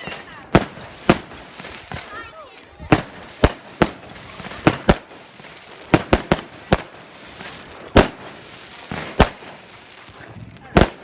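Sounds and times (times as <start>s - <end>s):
firework bangs: 0.0s - 11.0s
firework crackle: 0.0s - 11.0s.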